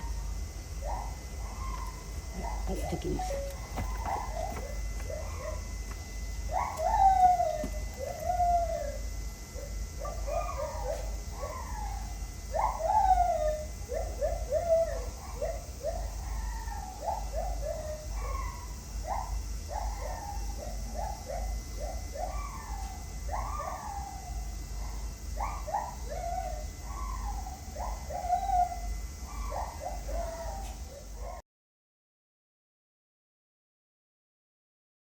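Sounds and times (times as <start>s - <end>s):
bird calling: 0.0s - 5.7s, 6.5s - 9.0s, 10.1s - 31.4s.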